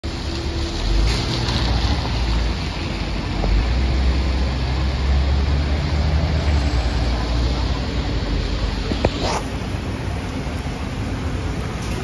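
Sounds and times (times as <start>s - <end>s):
low rumble of traffic: 0.0s - 12.0s
rain hissing on wet road: 0.1s - 12.0s.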